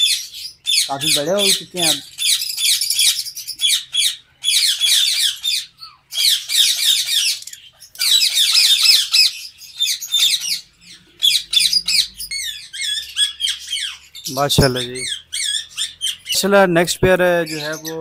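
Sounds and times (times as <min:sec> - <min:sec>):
lovebirds squawking and chattering: 0:00.0 - 0:18.0.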